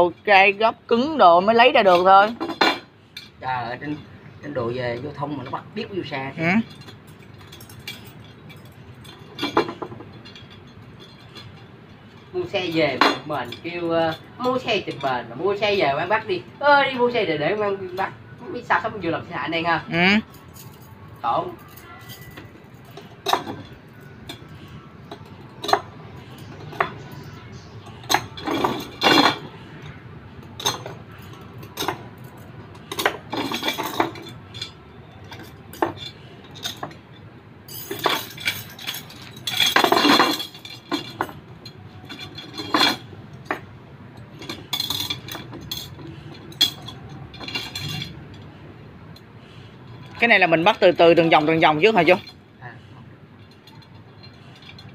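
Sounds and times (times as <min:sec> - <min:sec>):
metal spokes clinking: 0:00.0 - 0:54.9.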